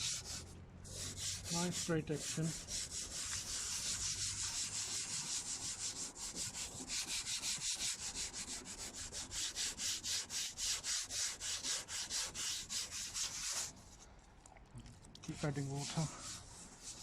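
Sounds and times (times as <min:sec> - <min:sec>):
wet sandpaper rubbing plastic: 0:00.0 - 0:14.0, 0:15.2 - 0:17.0.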